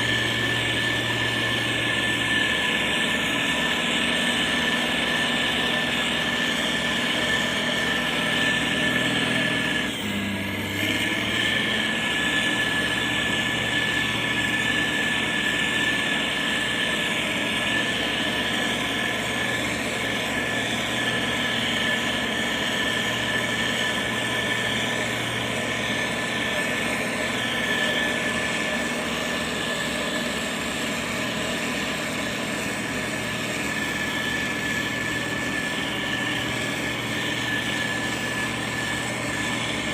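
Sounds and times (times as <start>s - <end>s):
diesel engine running: 0.0s - 39.9s
high whine: 0.0s - 39.9s.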